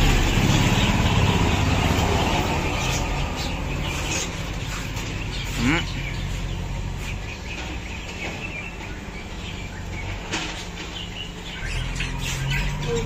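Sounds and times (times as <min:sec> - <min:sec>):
cage birds chirping: 0:00.0 - 0:13.0.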